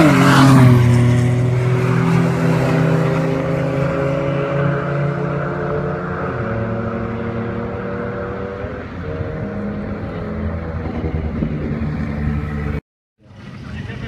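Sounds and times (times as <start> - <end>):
car engine at high revs: 0.0 - 12.8.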